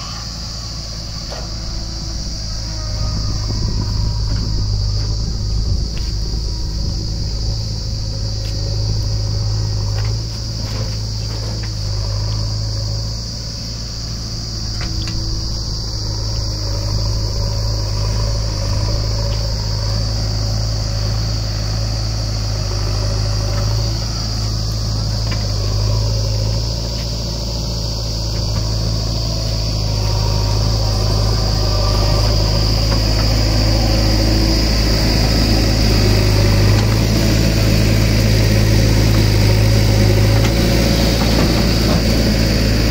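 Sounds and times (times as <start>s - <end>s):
backhoe loader working: 0.0s - 42.9s
tractor engine idling: 0.0s - 42.9s.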